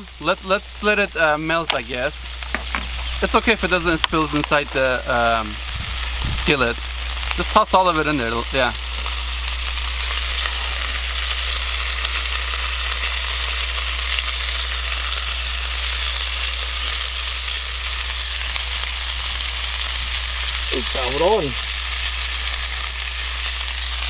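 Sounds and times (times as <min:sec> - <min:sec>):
burger patties sizzling: 0:00.0 - 0:24.0.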